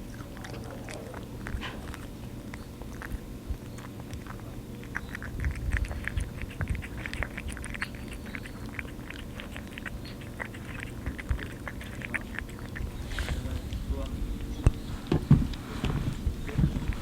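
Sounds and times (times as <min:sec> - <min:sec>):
cat chewing wet food: 0:00.0 - 0:17.0.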